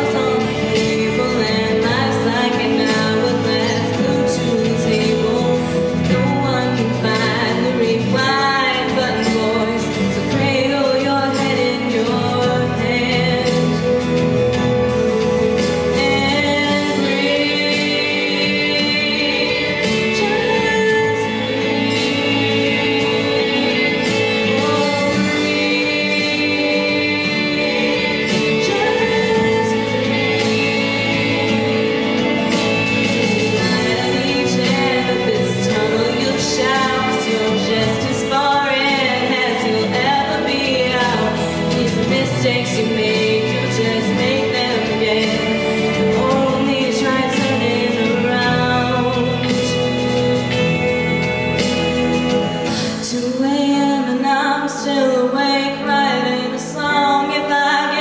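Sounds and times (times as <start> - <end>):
instrumental accompaniment: 0.0 - 58.0
woman singing into a microphone: 0.0 - 58.0.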